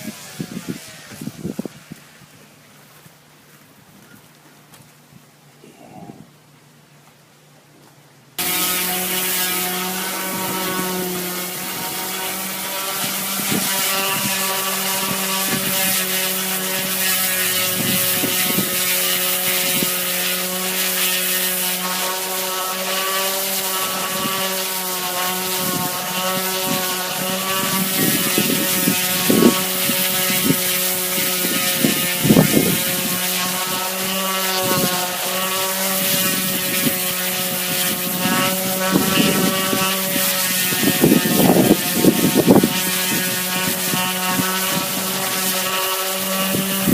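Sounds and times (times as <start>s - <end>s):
power sander on fiberglass: 0.0s - 3.1s, 8.4s - 46.9s.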